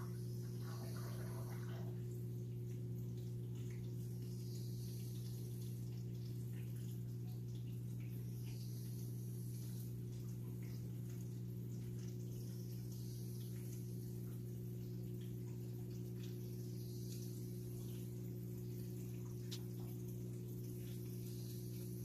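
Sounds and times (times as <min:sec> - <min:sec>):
aquarium filter humming: 0:00.0 - 0:22.0
water trickling and splashing: 0:00.0 - 0:22.0.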